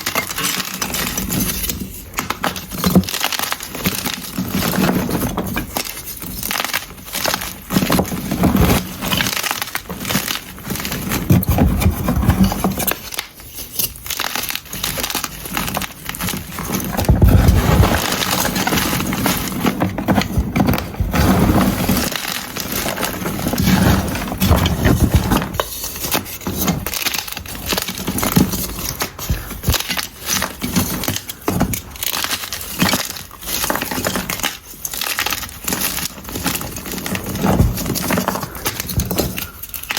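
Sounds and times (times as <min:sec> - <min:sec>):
chalk being crushed: 0:00.0 - 0:39.9.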